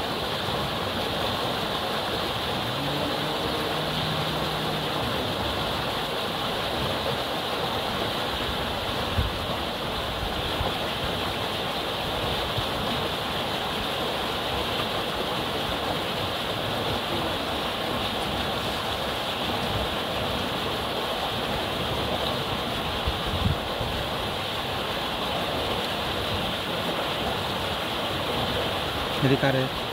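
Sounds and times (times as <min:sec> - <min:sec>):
river rushing: 0:00.0 - 0:29.9.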